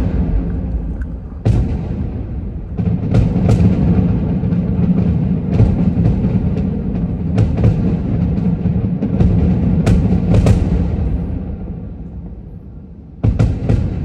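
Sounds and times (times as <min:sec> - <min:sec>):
sharp fireworks cracks: 0:00.0 - 0:12.4
fireworks booms rumbling: 0:00.0 - 0:14.0.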